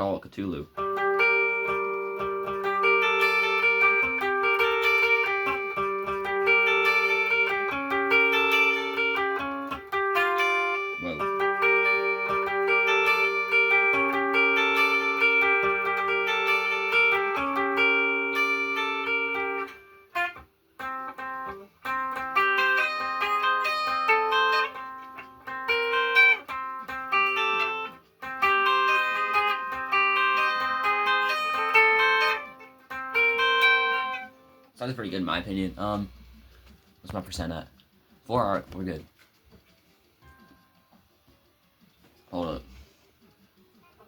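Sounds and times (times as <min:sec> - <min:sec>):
solo guitar playing: 0:00.5 - 0:39.0.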